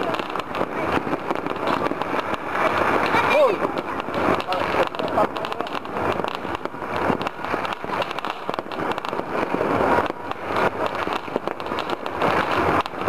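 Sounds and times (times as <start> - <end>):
distant fireworks crackling: 0.0 - 13.0.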